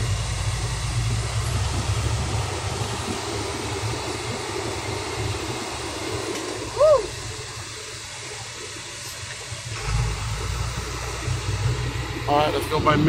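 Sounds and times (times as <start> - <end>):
road noise: 0.0 - 13.0
truck engine hum: 0.0 - 13.0.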